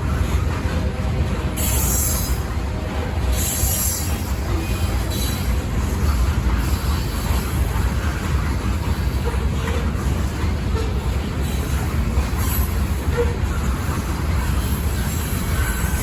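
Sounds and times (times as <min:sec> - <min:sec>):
freight train cars rumbling: 0:00.0 - 0:16.0.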